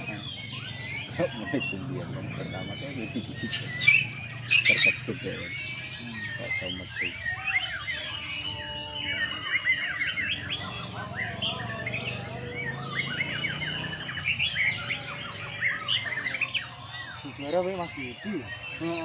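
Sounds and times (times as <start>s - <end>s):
birds singing whistles and chirps: 0.0s - 19.0s.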